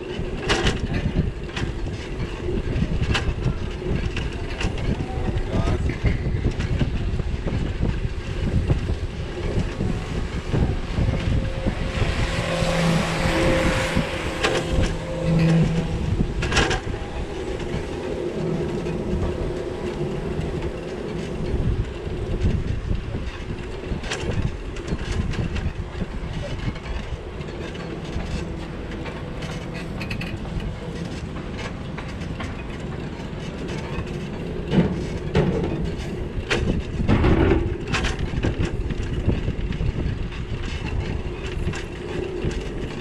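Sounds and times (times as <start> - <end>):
bicycle rumbling and rattling: 0.0 - 43.0
rush of noise: 0.0 - 43.0.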